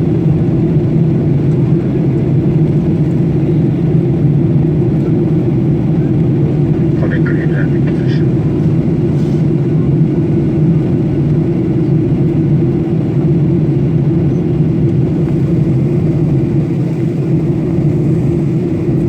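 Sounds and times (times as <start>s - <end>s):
airliner cabin engine roar: 0.0s - 19.0s.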